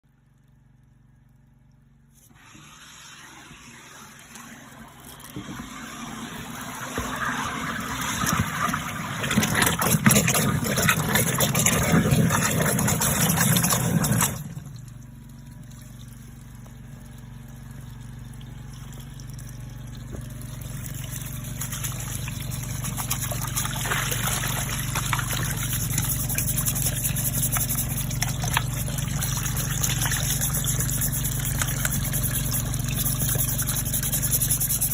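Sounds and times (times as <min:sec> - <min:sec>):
low pump hum: 0:00.0 - 0:34.9
water flowing: 0:02.4 - 0:34.9
water splashing in drain: 0:02.4 - 0:34.9.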